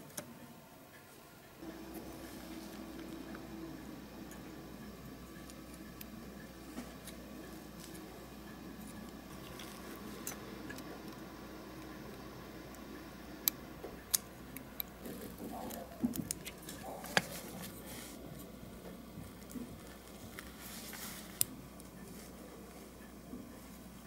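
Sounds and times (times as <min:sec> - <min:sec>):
soft rubbing and handling: 0:01.6 - 0:12.0, 0:14.6 - 0:24.0.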